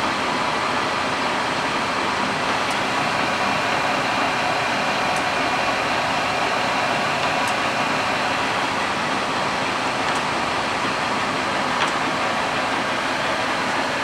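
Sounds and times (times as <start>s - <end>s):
lathe running: 2.2s - 14.0s.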